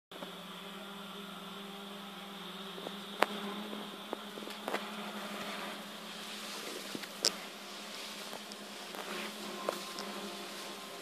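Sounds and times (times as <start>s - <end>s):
low buzzing hum: 0.1s - 11.0s.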